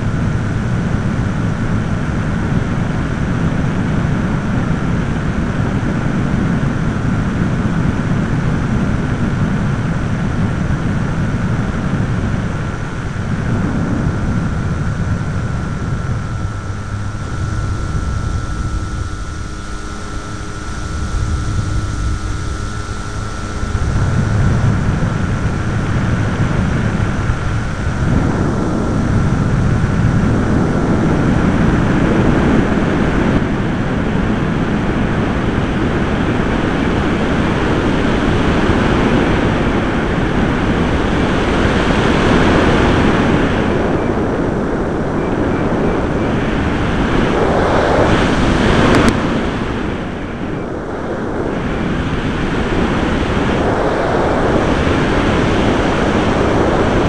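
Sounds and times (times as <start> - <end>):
thin steady whine: 0.0 - 57.0
wind roar over microphone: 0.0 - 57.0.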